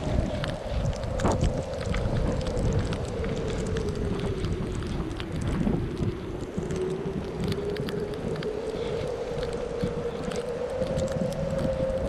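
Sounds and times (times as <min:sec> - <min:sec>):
wind buffeting microphone: 0:00.0 - 0:12.0
wind howling: 0:00.0 - 0:12.0.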